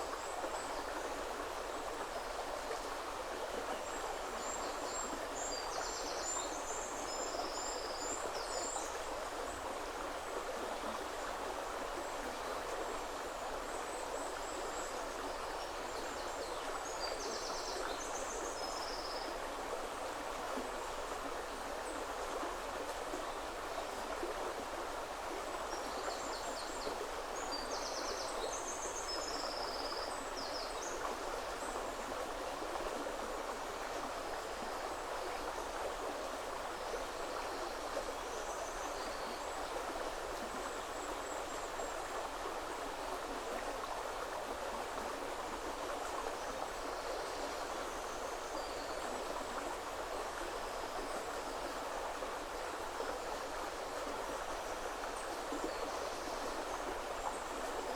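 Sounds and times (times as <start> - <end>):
river flowing over stones: 0.0 - 57.9.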